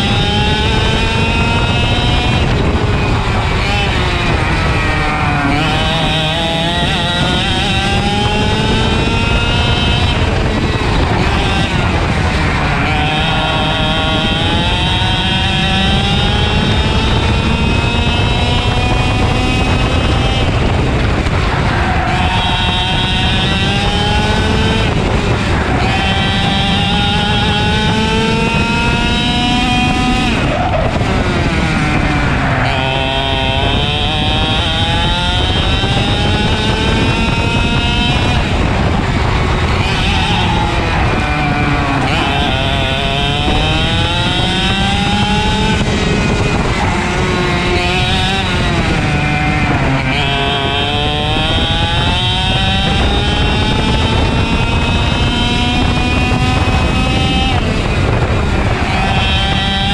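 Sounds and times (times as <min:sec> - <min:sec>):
kart engine at full throttle: 0:00.0 - 0:59.9.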